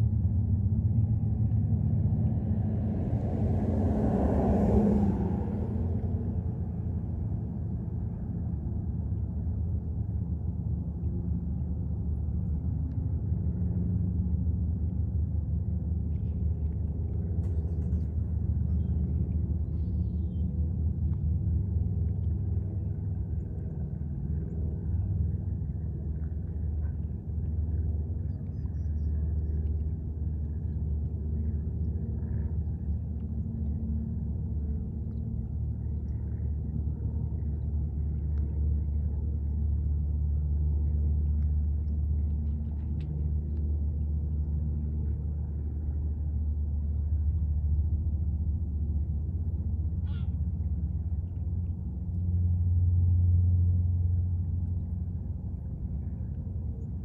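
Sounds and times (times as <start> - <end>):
motor running steadily: 4.6 - 57.0.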